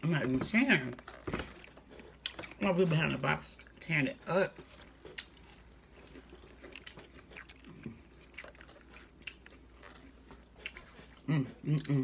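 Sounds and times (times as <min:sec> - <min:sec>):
chewing crunchy food: 0:00.2 - 0:12.0.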